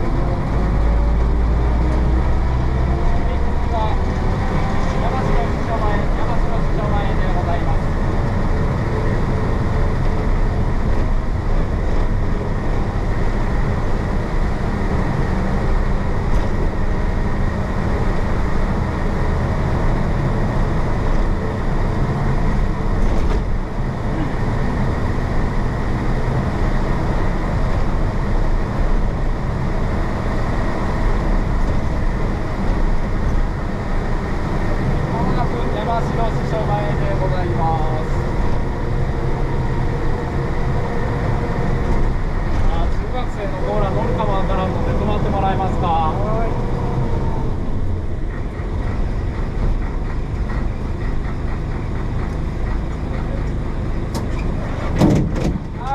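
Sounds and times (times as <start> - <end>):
diesel bus engine running: 0.0 - 55.9.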